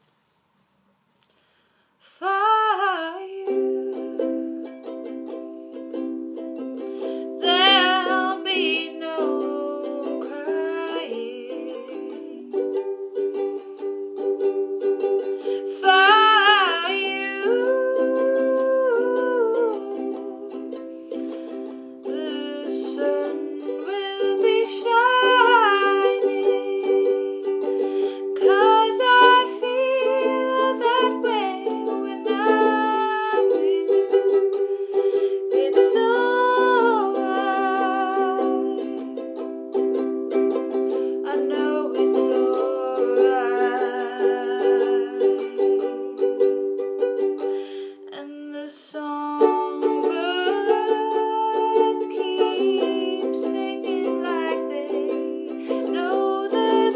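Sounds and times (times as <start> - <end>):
person singing: 2.0 - 56.9
ukulele chords: 2.6 - 56.9.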